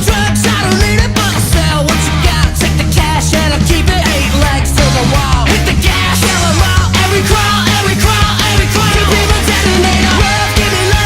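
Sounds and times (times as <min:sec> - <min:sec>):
person singing: 0:00.0 - 0:11.0
punk rock band: 0:00.0 - 0:11.0.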